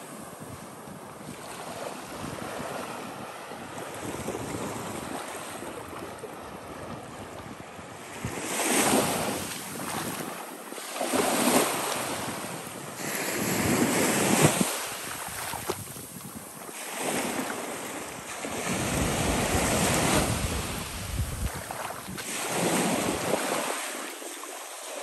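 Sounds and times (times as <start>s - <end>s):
waves washing onto sandy beach: 0.0s - 25.0s.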